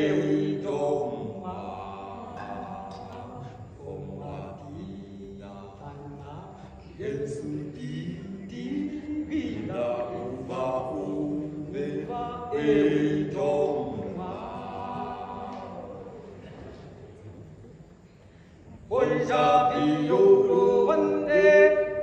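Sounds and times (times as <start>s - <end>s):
two men singing unaccompanied: 0.0s - 16.4s, 18.9s - 22.0s.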